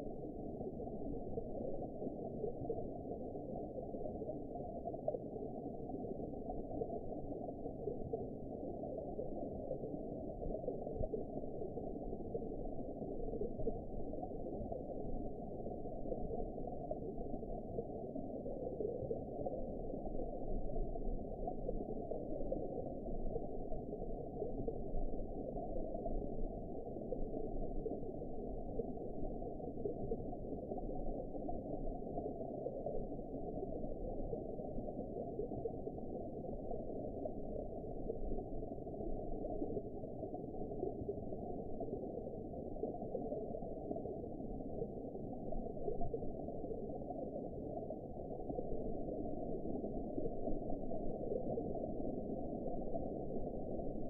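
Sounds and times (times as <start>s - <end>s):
muffled underwater water wash: 0.0s - 54.0s.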